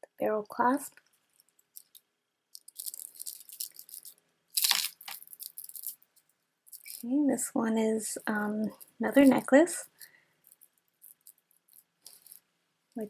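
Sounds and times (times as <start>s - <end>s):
crinkly material rustling: 1.0s - 7.2s, 8.0s - 13.0s.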